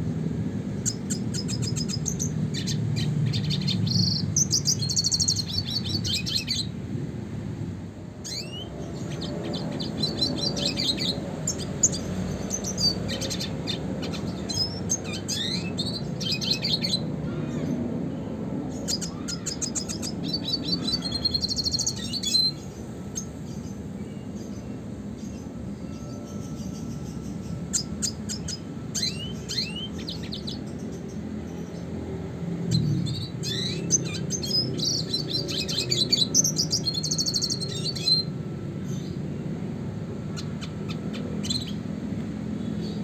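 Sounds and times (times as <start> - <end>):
bird twittering and trilling: 0.7 - 6.8, 8.2 - 43.0.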